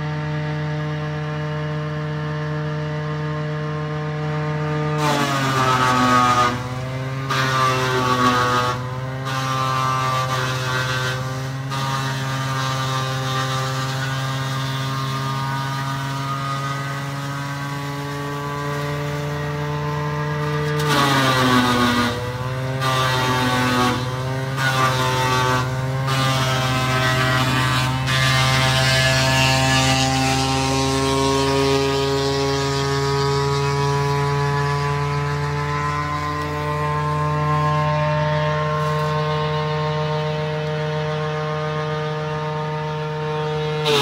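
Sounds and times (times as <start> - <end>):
wood chipper humming: 0.0 - 44.0.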